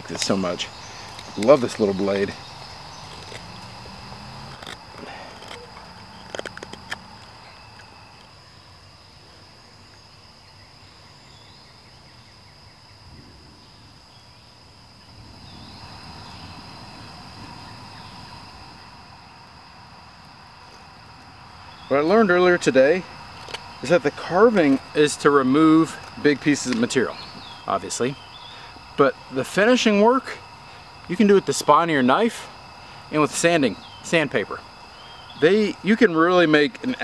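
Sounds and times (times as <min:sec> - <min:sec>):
night insects chorus: 0:00.0 - 0:37.0.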